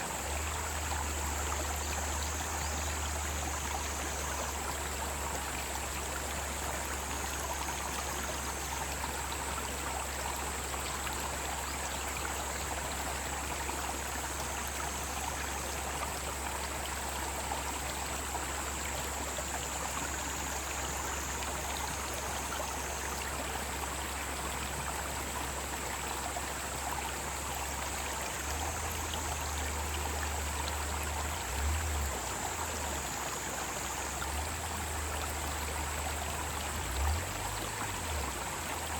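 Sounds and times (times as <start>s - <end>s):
cicadas chorus: 0.0s - 38.9s
stream flowing: 0.0s - 38.9s.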